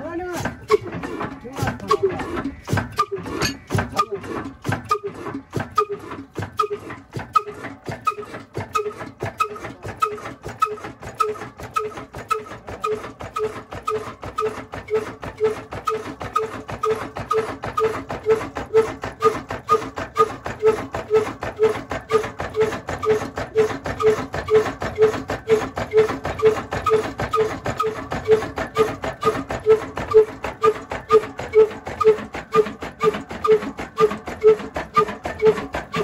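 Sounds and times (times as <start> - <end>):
fast mechanical clatter: 0.0 - 36.0
oil engine running: 0.0 - 36.0.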